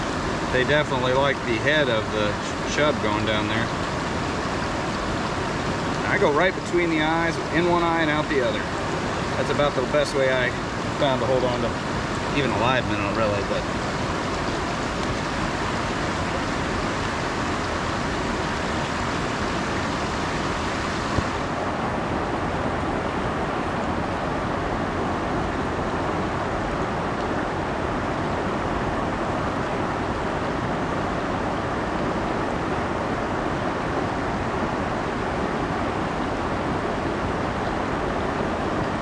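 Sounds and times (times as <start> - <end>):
stream water rushing over rocks: 0.0 - 39.0.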